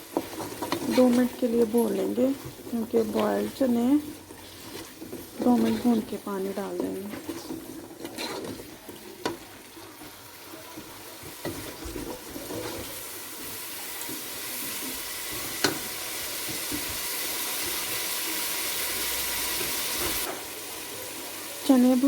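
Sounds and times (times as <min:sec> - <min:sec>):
food sizzling in a pot: 0:00.0 - 0:22.0.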